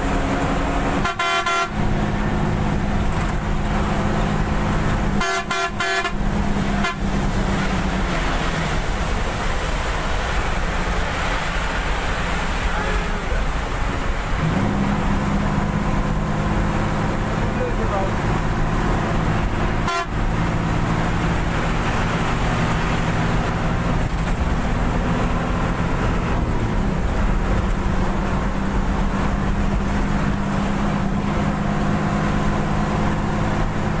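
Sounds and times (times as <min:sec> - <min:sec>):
bus engine running: 0:00.0 - 0:34.0
wet road noise: 0:00.0 - 0:34.0.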